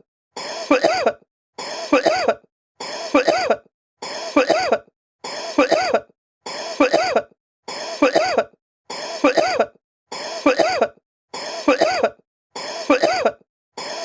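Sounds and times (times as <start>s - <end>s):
person coughing: 0.4s - 14.0s.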